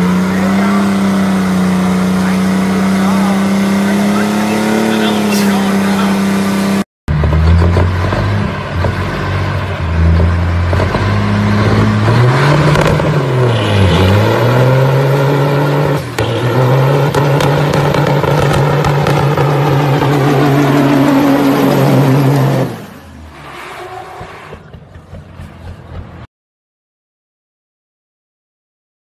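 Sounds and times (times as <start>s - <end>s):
diesel truck engine revving: 0.0s - 26.3s.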